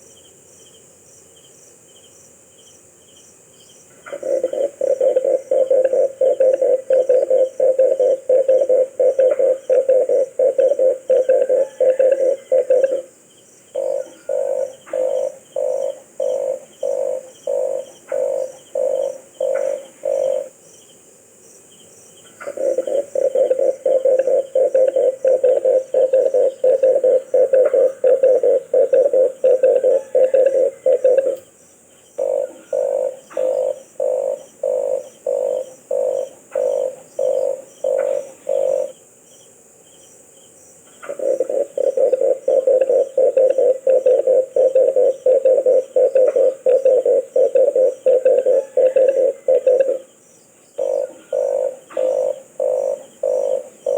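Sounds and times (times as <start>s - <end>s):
dove cooing: 4.0s - 20.6s, 22.3s - 31.5s, 32.2s - 39.0s, 41.0s - 50.1s, 50.8s - 53.9s.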